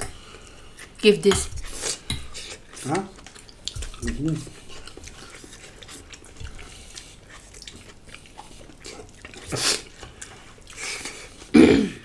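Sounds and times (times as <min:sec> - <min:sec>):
chewing and mouth sounds: 0:00.0 - 0:11.6.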